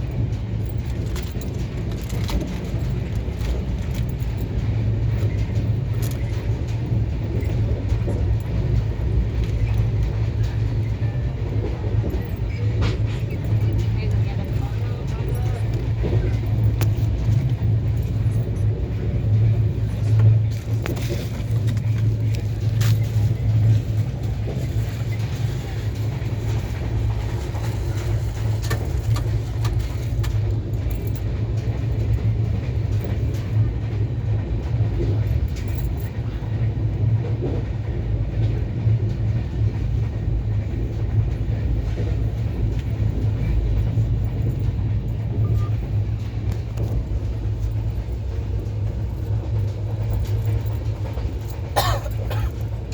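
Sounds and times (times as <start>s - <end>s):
passenger train rumbling: 0.0s - 52.9s.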